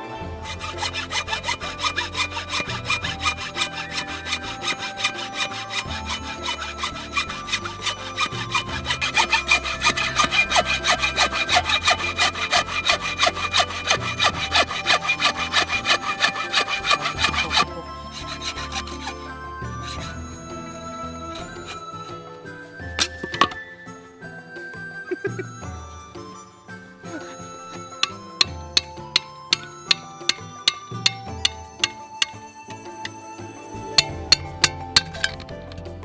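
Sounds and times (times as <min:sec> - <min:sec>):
hand saw cutting bamboo: 0:00.4 - 0:22.1, 0:23.0 - 0:23.6, 0:27.1 - 0:35.5.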